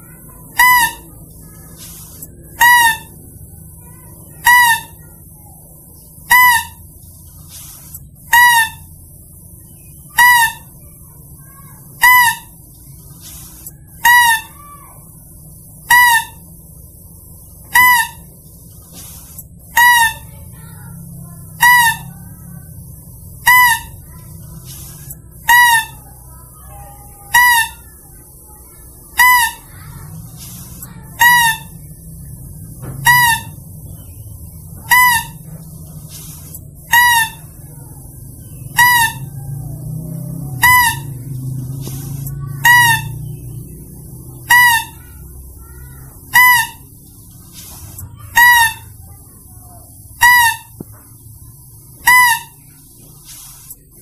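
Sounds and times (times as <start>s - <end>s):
high-pitched lure call: 0.5s - 5.4s, 6.0s - 6.9s, 7.6s - 9.1s, 9.7s - 15.0s, 15.8s - 16.5s, 17.6s - 18.4s, 19.2s - 22.3s, 23.4s - 49.1s, 49.8s - 50.8s, 51.6s - 52.7s.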